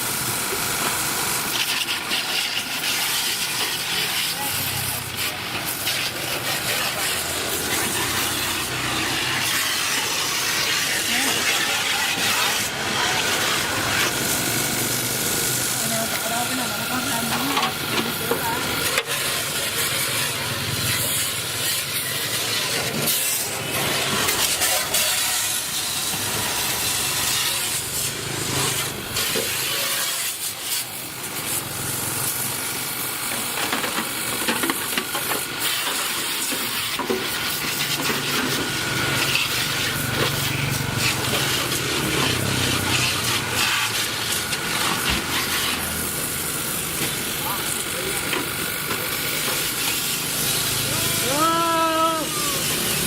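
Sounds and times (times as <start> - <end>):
hissing spray: 0.0 - 53.0
motor running: 0.0 - 53.0.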